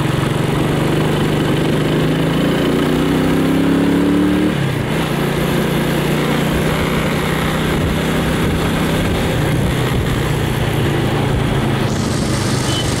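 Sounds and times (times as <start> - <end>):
motorbike engine cruising: 0.0 - 13.0
road noise: 0.0 - 13.0.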